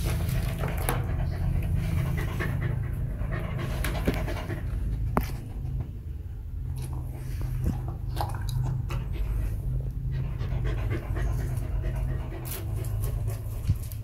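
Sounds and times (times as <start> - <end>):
dog panting: 0.1 - 6.1, 8.7 - 14.0.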